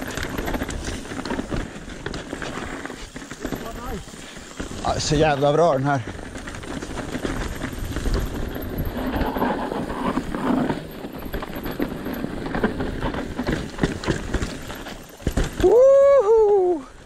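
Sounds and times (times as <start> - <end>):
bike clattering over bumps: 0.0 - 16.2
bike tyres rumbling over dirt: 0.0 - 17.0.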